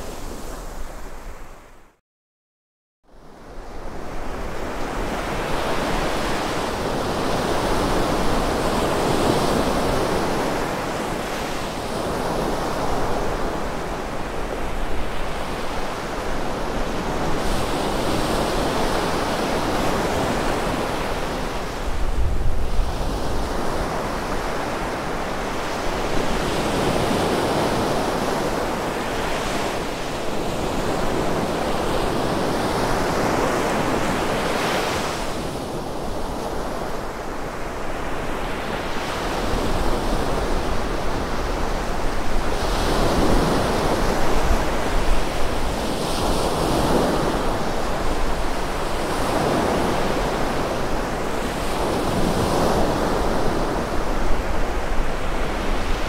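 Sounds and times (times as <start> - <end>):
wind rumble on microphone: 3.2 - 56.0
surf breaking on a beach: 4.5 - 56.0.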